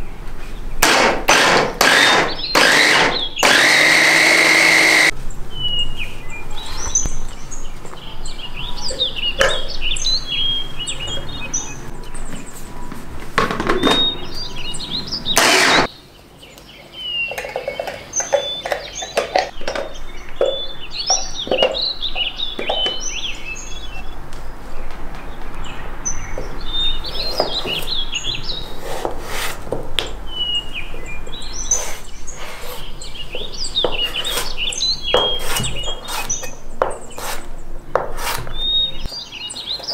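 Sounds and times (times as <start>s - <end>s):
small birds chirping: 4.9s - 13.0s, 13.8s - 28.8s, 30.0s - 39.9s.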